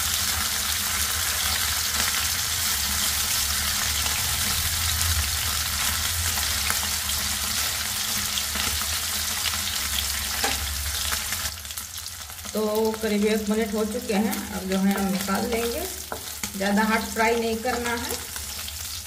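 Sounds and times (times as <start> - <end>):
fish sizzling in oil: 0.0 - 19.0.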